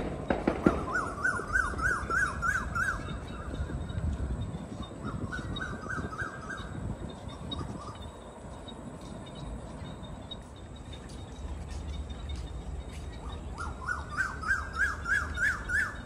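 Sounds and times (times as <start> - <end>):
bird calling: 0.7 - 10.5, 11.8 - 16.0.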